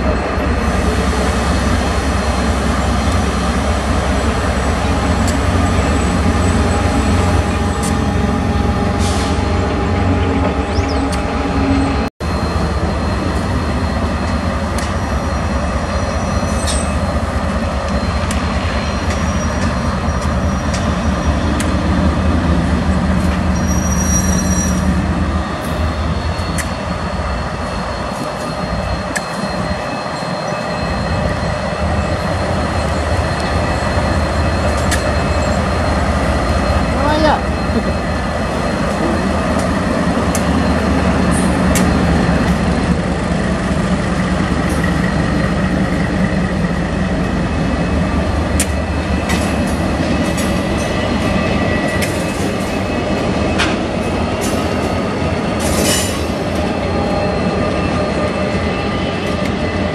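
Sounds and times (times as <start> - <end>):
diesel locomotive engine rumble: 0.0 - 59.9
train wheels squealing: 0.0 - 59.9.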